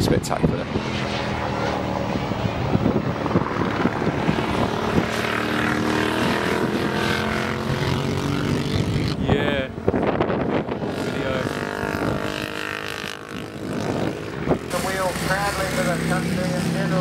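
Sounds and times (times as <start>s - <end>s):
racing motorcycle engine: 0.2s - 17.0s.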